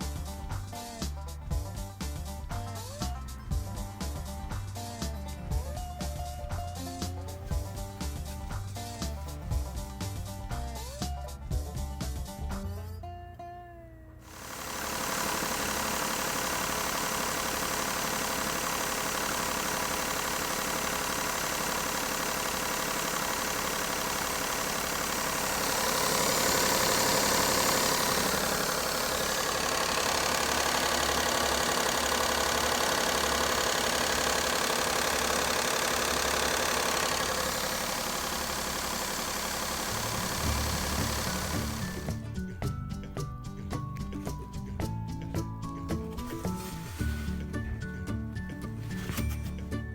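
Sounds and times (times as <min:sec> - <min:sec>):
car engine idling: 0:00.0 - 0:11.0, 0:14.2 - 0:49.9.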